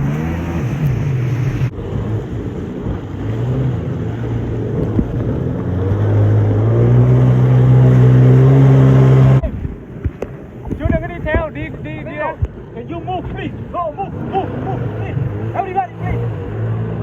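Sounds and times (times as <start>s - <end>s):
jet ski engine running: 0.0s - 17.0s.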